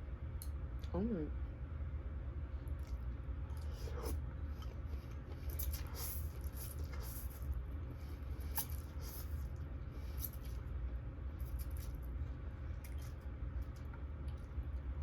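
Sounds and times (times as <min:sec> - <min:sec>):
steady low hum: 0:00.0 - 0:15.0
wet chewing of noodles: 0:02.6 - 0:15.0.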